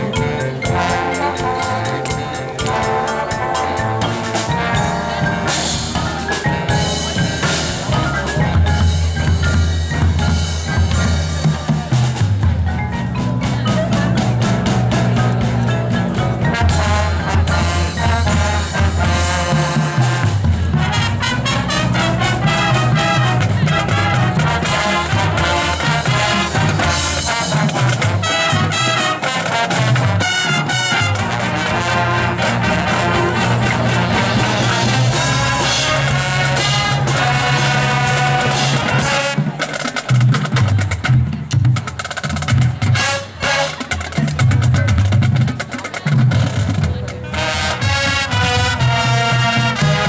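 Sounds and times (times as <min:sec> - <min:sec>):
low brass line: 0:00.0 - 0:12.2, 0:13.5 - 0:41.4, 0:42.0 - 0:50.0
trumpets and trombones: 0:00.0 - 0:12.5, 0:13.1 - 0:50.0
marching percussion: 0:00.0 - 0:50.0.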